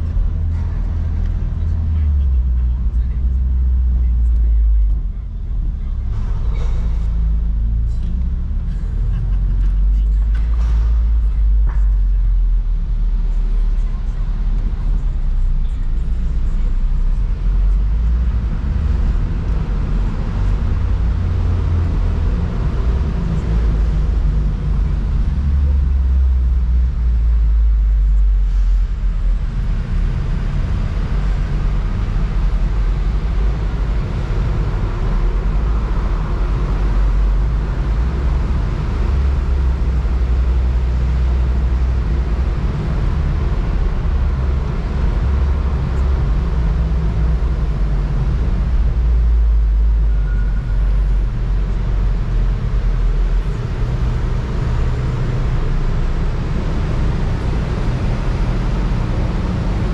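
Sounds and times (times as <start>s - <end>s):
car driving low rumble: 0.0s - 59.9s.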